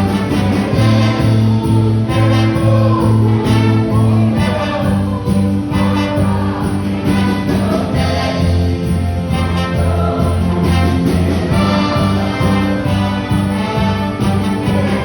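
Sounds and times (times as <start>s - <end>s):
church worship music: 0.0s - 15.0s.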